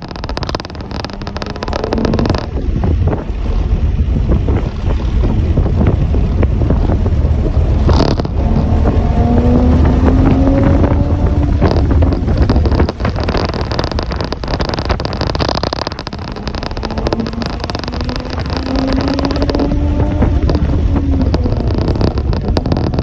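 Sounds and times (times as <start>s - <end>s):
motor engine running: 0.0s - 23.0s
wind buffeting microphone: 0.0s - 23.0s.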